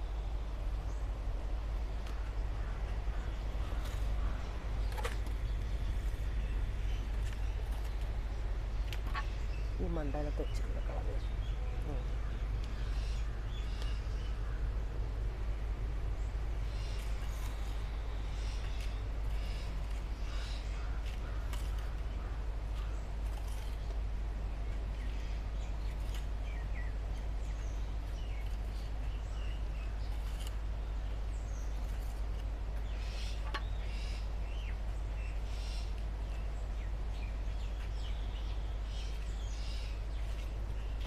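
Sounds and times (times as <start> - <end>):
birds chirping: 0.0 - 41.0
low outdoor rumble: 0.0 - 41.0.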